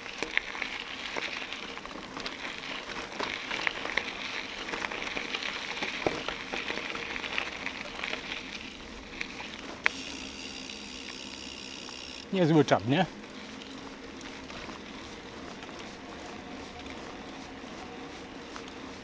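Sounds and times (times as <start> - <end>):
bicycle tyres on rough track: 0.0 - 19.0.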